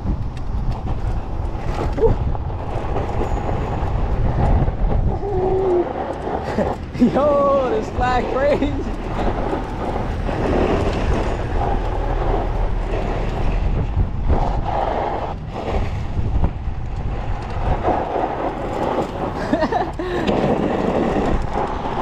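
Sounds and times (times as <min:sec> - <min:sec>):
tyres rumbling on gravel: 0:00.0 - 0:22.0
wind buffeting microphone: 0:00.0 - 0:22.0.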